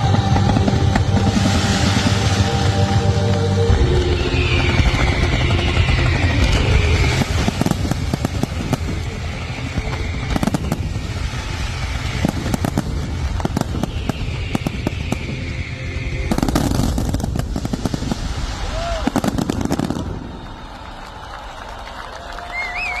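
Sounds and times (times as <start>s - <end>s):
firework whistle: 0.0s - 21.3s, 22.4s - 23.0s
fireworks bangs: 0.0s - 21.6s
fireworks crackling and popping: 0.0s - 23.0s.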